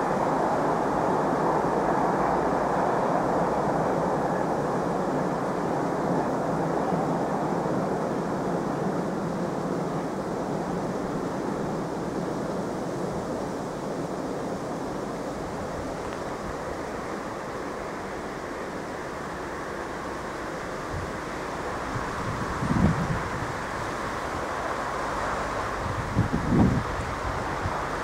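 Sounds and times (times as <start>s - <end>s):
distant vehicle rumble: 0.0s - 28.0s.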